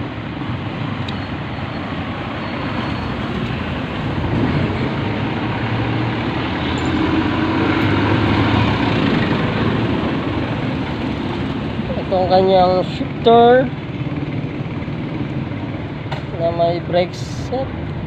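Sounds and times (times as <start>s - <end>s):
road traffic noise: 0.0s - 18.0s
vehicle engine humming: 0.0s - 18.0s.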